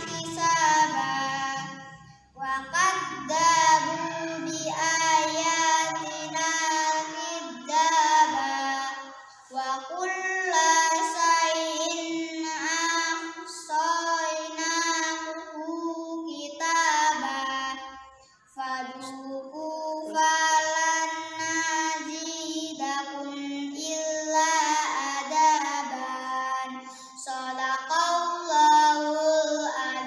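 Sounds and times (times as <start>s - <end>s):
girl reciting in melodic chant: 0.0s - 30.0s.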